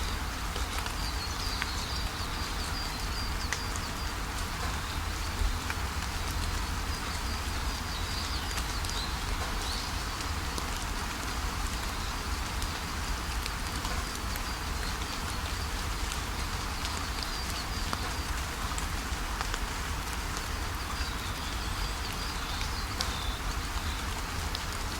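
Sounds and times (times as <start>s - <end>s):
steady rainfall: 0.0s - 24.9s.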